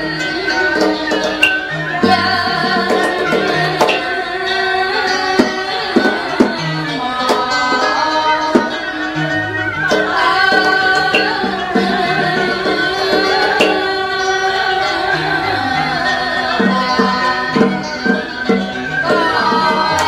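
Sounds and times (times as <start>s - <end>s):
percussion strokes: 0.0s - 20.0s
wavering melody: 0.0s - 20.0s.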